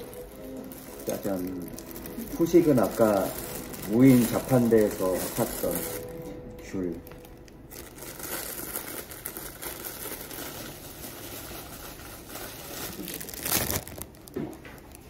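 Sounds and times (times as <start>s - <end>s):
orange peel crinkling and tearing: 0.0s - 15.0s.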